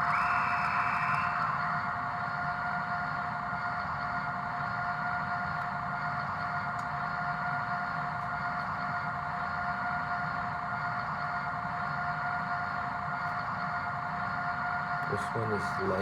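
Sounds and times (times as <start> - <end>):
diesel engine idling through small speaker: 0.0 - 16.0.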